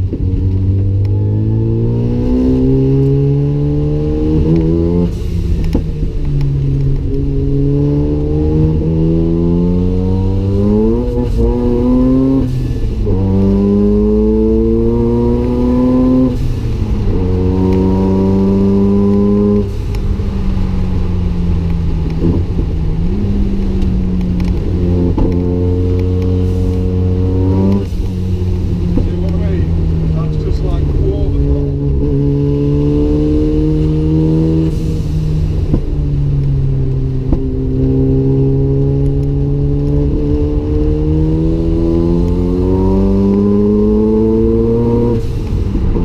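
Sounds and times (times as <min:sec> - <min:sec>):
rotary engine accelerating: 0:00.0 - 0:46.0.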